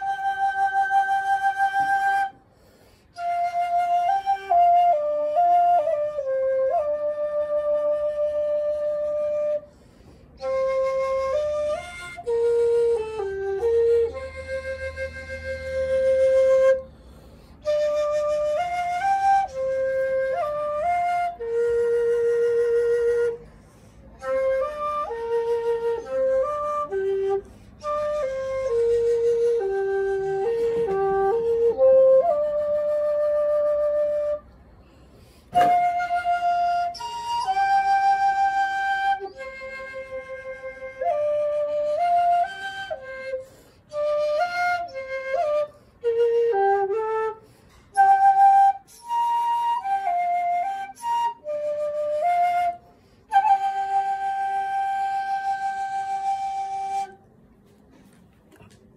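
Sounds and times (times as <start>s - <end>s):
bamboo flute melody: 0.0s - 58.7s.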